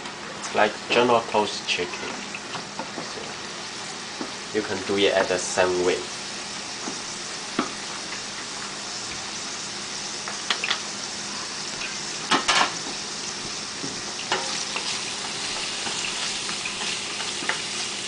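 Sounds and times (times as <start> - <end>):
chicken sizzling in hot oil: 0.2 - 18.0.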